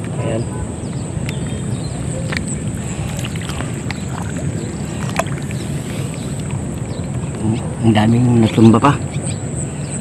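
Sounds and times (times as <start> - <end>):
low rumbling noise: 0.0 - 8.4.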